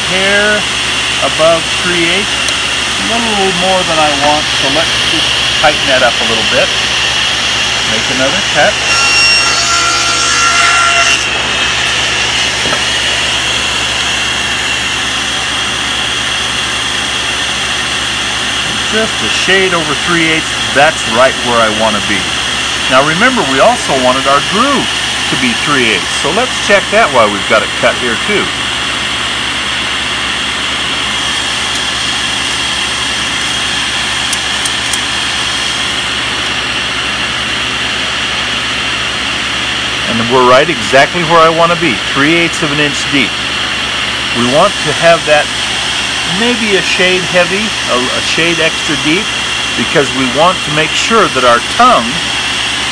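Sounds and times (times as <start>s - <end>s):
table saw cutting wood: 0.0s - 52.9s
table saw running without load: 0.0s - 52.9s
woodshop machine whirring: 0.0s - 52.9s.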